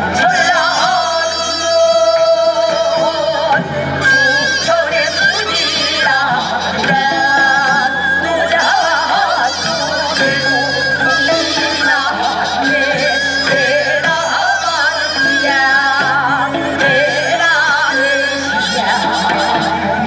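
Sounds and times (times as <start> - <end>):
traditional music ensemble playing: 0.0 - 20.0.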